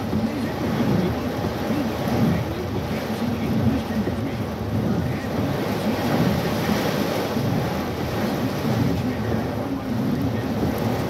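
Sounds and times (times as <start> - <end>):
heavy rain on car roof: 0.0 - 11.0.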